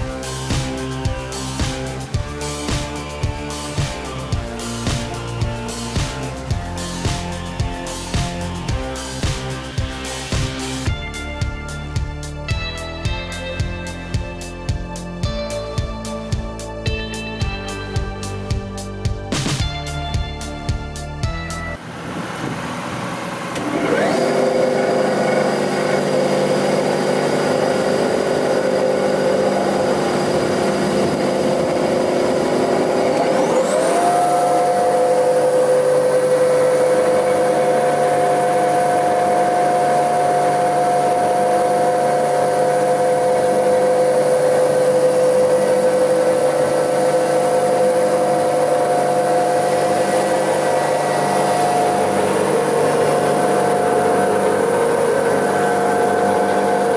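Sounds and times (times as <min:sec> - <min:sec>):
spindle moulder motor whine: 0:00.0 - 0:13.2, 0:21.7 - 0:56.9.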